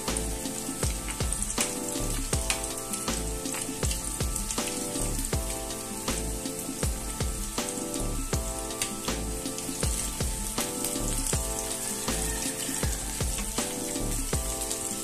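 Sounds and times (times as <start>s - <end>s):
background music with beat: 0.0s - 15.0s
chicken deep-frying in oil: 0.0s - 15.0s.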